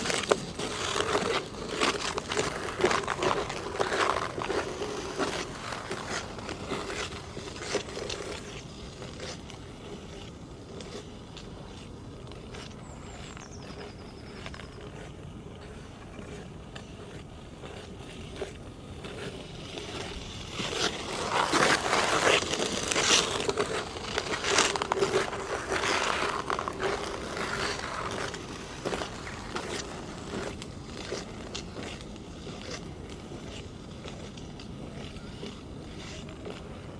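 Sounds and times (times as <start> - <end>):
ice skate blades scraping ice: 0.0 - 36.9.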